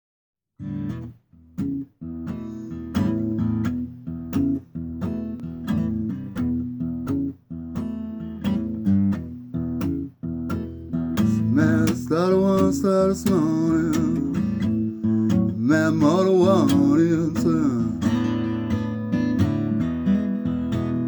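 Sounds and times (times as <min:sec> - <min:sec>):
acoustic guitar blues chords: 0:00.6 - 0:21.0.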